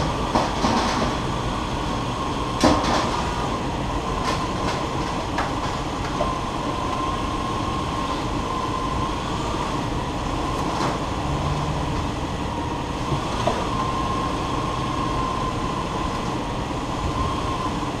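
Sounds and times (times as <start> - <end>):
vehicle mechanical whine: 0.0 - 18.0.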